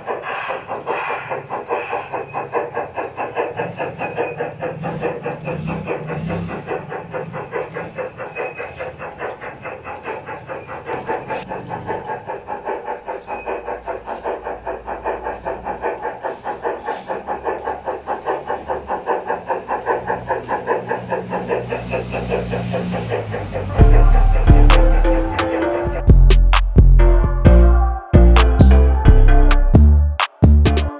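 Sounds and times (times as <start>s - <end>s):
model locomotive steam chuffs: 0.0s - 26.7s
low rumble of running train: 0.0s - 30.1s.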